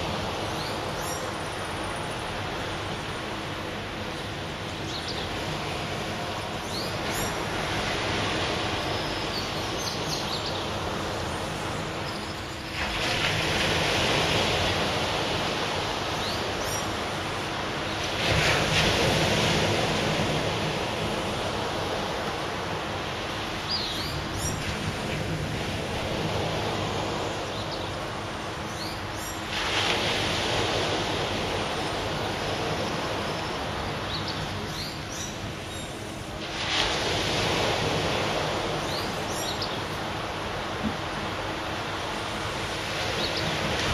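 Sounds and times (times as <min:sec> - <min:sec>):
surf breaking on a beach: 0:00.0 - 0:43.9.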